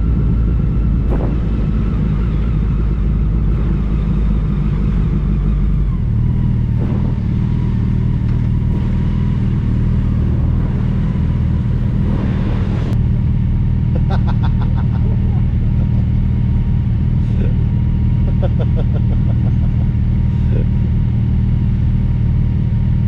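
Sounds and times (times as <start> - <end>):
motorcycle engine rumbling: 0.0 - 23.0.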